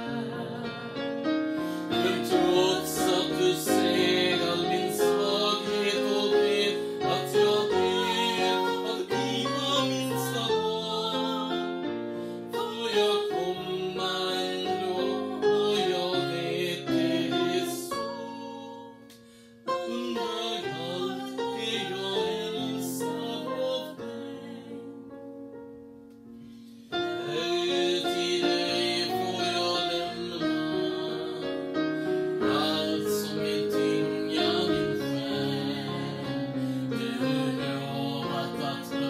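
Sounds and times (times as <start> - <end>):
hymn singing: 0.0 - 18.9, 19.7 - 25.0, 26.9 - 39.0
piano accompaniment: 0.0 - 39.0.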